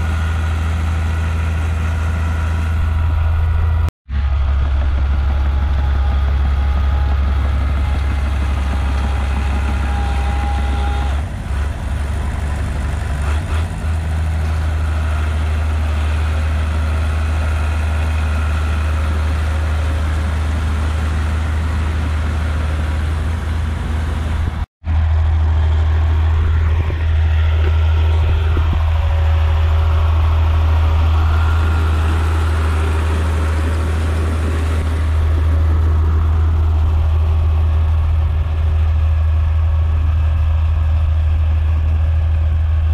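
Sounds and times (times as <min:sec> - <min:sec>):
tractor diesel engine droning: 0:00.0 - 0:42.9.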